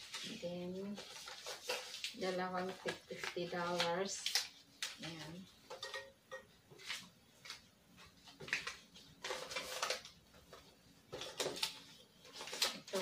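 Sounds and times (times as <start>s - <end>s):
banknotes crinkling: 0.0s - 5.4s, 6.8s - 13.0s.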